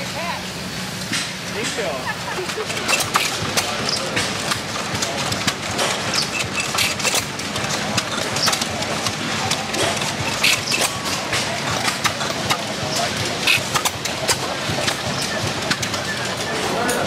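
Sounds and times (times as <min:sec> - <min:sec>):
stationary engines popping and clanking: 0:02.4 - 0:17.0.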